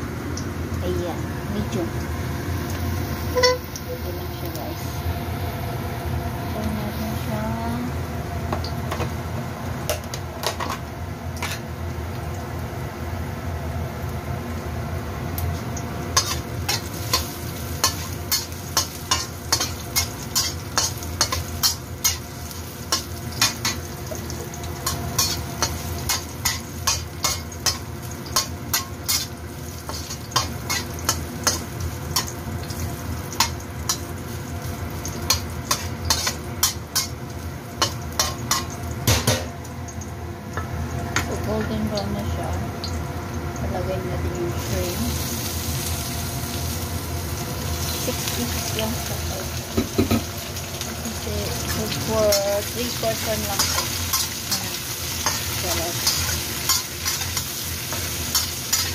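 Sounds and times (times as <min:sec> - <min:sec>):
garlic sizzling in oil: 0:00.0 - 0:58.9.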